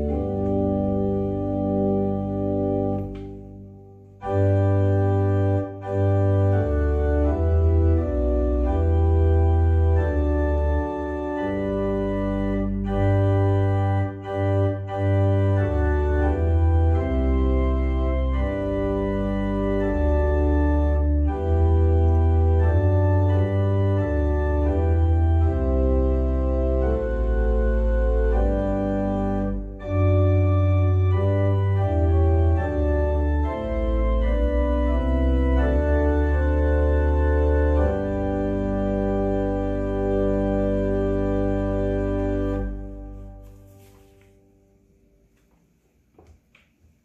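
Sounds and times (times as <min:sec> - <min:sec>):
organ playing a hymn: 0:00.0 - 0:45.0.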